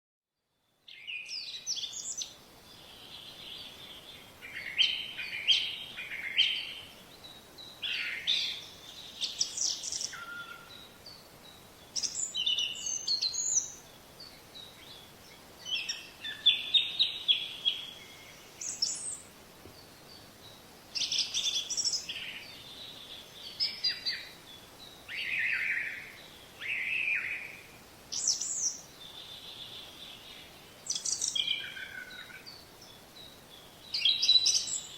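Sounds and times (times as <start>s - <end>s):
songbirds singing: 0.4s - 34.9s.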